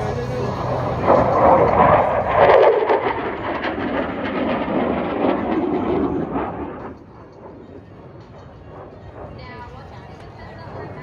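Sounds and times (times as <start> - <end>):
jet aircraft roar passing overhead: 0.0 - 11.0.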